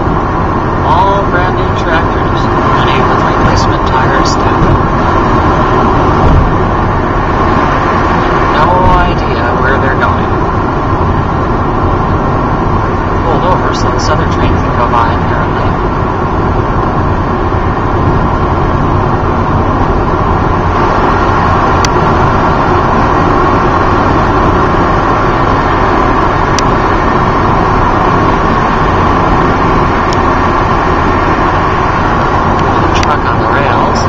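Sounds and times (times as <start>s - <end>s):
car road noise at highway speed: 0.0s - 34.0s.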